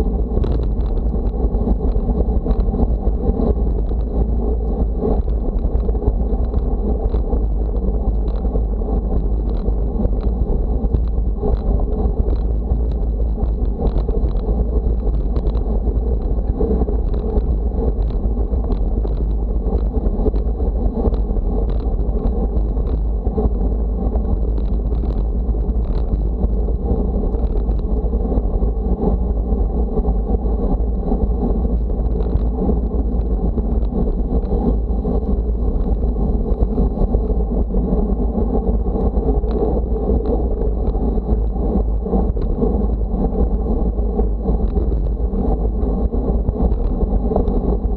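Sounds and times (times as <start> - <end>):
road noise: 0.0 - 47.9
wind buffeting microphone: 0.0 - 47.9.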